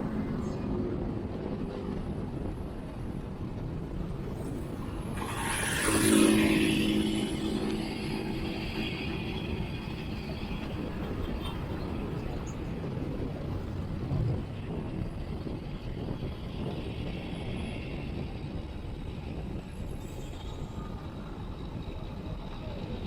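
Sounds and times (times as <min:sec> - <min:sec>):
low wind gust: 0:00.0 - 0:23.0
road traffic noise: 0:00.0 - 0:23.0
wind rushing over microphone: 0:00.0 - 0:23.0.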